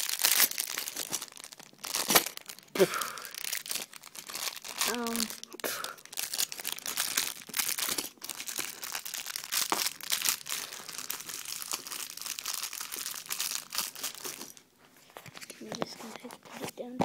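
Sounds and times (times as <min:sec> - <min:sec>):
packaging crinkling and rustling: 0:00.0 - 0:16.8.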